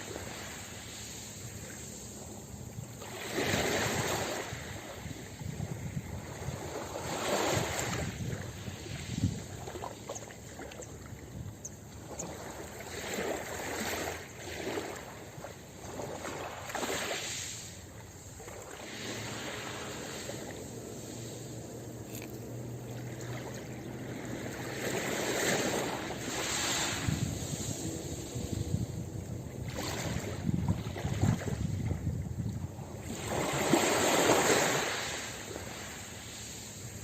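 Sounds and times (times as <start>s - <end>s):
ocean waves on a beach: 0.0s - 37.0s.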